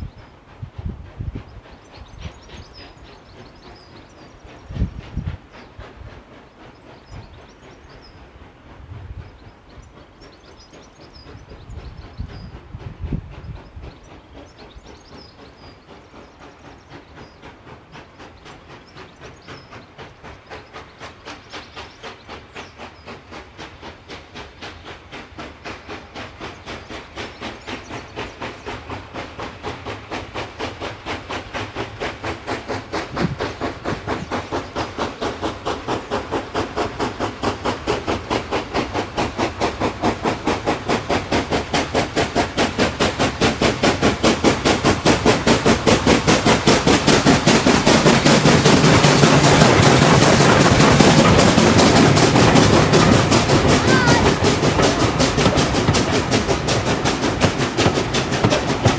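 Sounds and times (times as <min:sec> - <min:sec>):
steam locomotive chuffing: 0:00.0 - 0:58.9.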